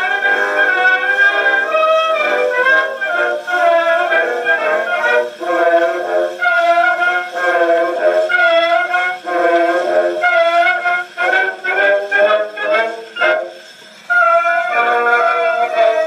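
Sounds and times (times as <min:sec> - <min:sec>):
old phonograph record melody: 0:00.0 - 0:16.0.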